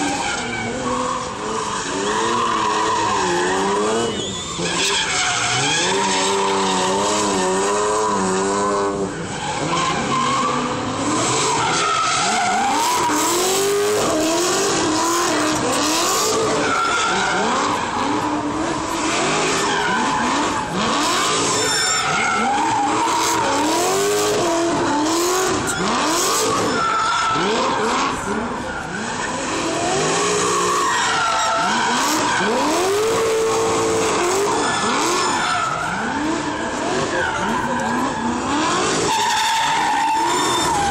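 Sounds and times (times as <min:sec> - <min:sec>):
car engines revving: 0:00.0 - 0:40.9
tyres screeching: 0:00.0 - 0:40.9.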